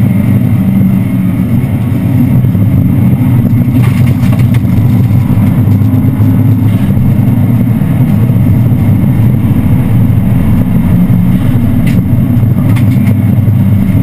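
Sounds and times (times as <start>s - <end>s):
car engine running hard: 0.0s - 14.0s.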